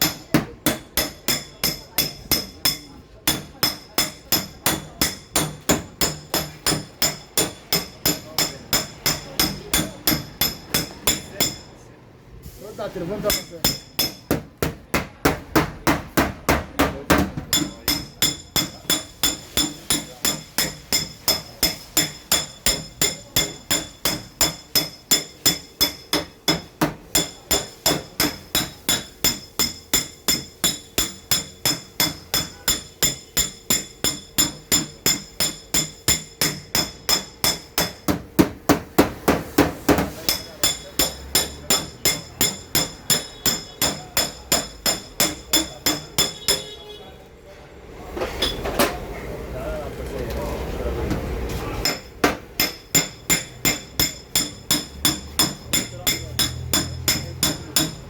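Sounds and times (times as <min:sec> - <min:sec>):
hammer tapping sheet metal: 0:00.0 - 0:11.8, 0:13.2 - 0:46.9, 0:51.1 - 0:58.0.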